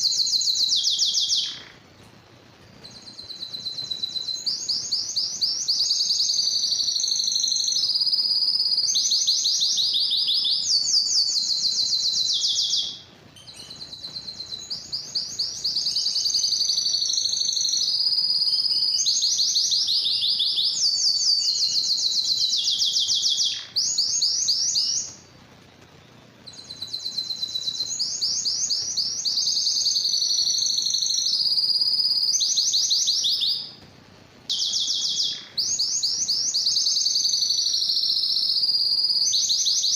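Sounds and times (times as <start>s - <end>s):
canary singing trills: 0.0s - 2.0s, 2.6s - 33.9s, 34.5s - 39.9s.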